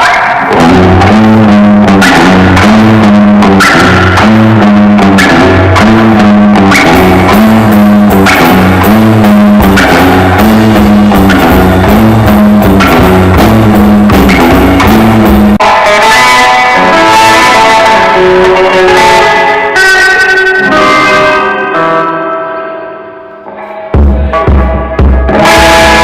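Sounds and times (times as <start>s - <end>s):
ringing guitar chords: 0.0s - 26.0s
rock band music: 0.0s - 26.0s.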